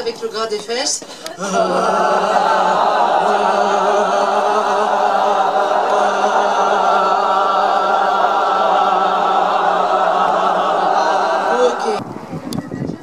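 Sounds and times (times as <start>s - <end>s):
group chanting on one note: 1.2s - 12.0s.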